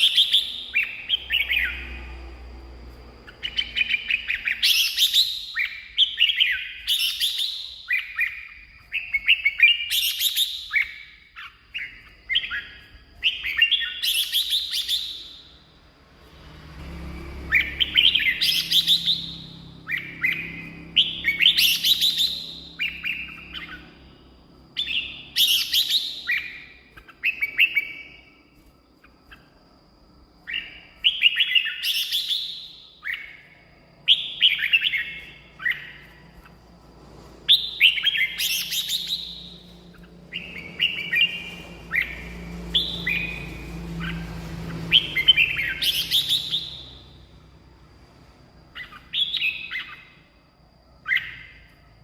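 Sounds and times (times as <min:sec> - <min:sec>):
bird chirping song: 0:00.0 - 0:52.0.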